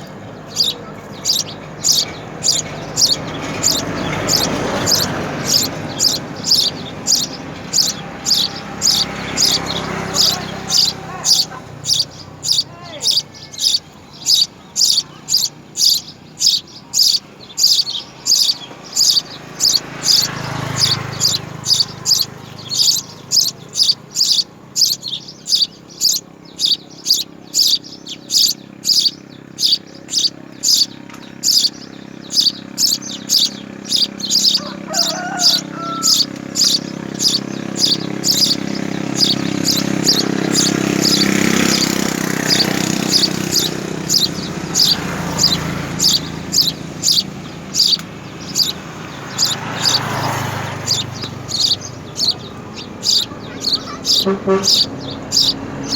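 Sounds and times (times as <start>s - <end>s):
sparrow chirping: 0.0s - 55.9s.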